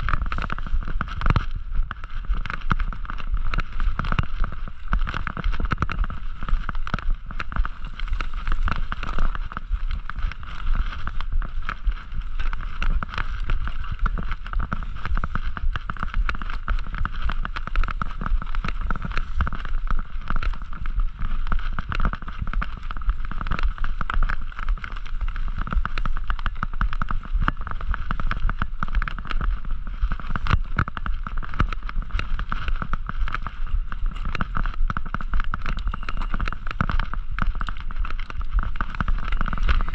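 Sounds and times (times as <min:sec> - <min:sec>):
bike rattling over bumps: 0:00.0 - 0:39.9
steady low rumble: 0:00.0 - 0:39.9.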